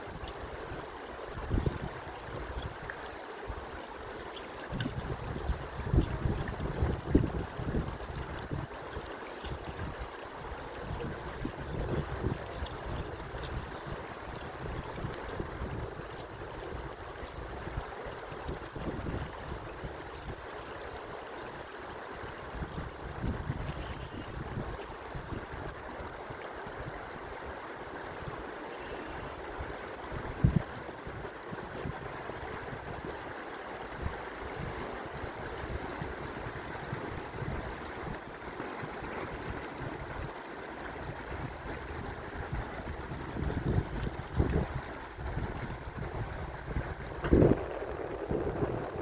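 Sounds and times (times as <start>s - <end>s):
wind buffeting microphone: 0.0s - 2.9s, 4.6s - 20.9s, 22.3s - 28.5s, 29.2s - 49.0s.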